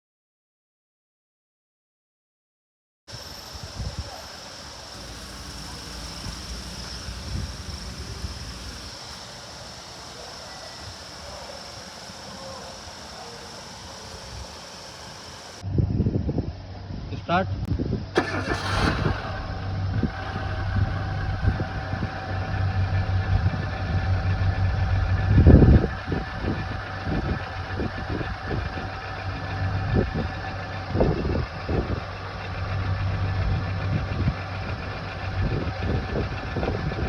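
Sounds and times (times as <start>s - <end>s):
car engine idling: 3.1s - 15.6s, 18.2s - 37.0s.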